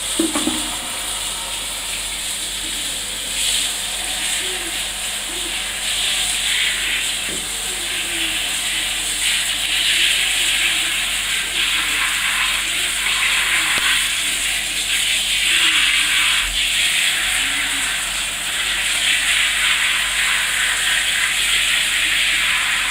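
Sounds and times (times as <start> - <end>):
shower water spraying: 0.0 - 22.9.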